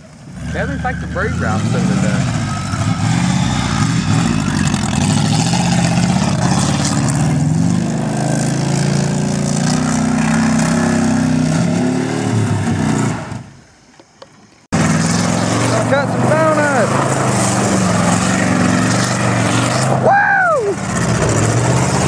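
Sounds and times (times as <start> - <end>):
car engine revving: 0.0 - 13.5, 14.7 - 22.0.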